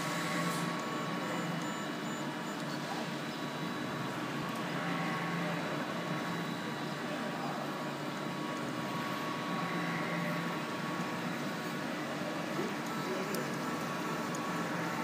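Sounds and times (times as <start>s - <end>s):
three d printer whirring: 0.0s - 15.0s.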